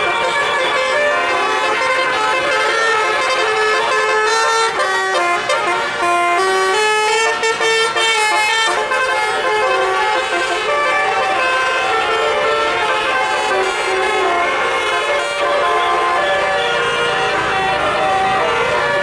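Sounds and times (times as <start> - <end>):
musical air horn tune: 0.0 - 18.7.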